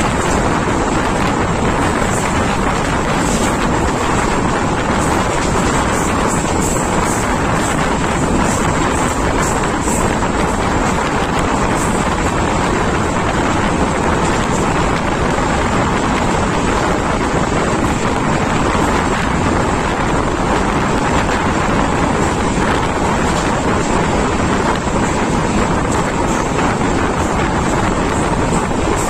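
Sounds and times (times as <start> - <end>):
train running at speed: 0.0 - 29.0
wind on microphone: 0.0 - 29.0.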